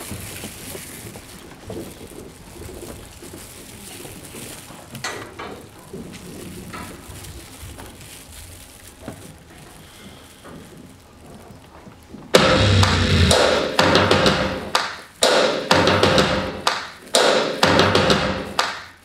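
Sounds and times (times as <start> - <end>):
rustling: 0.0 - 15.2.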